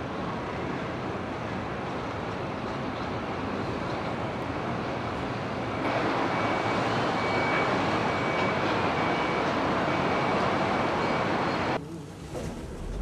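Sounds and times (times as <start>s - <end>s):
rushing outdoor noise: 0.0s - 13.0s.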